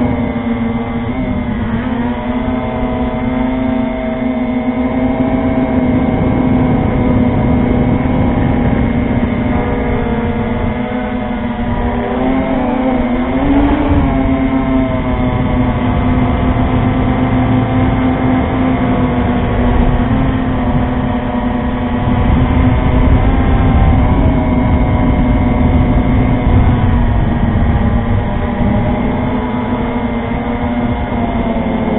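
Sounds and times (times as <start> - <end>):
drone propellers buzzing: 0.0 - 31.9
wind noise rumble: 0.0 - 31.9.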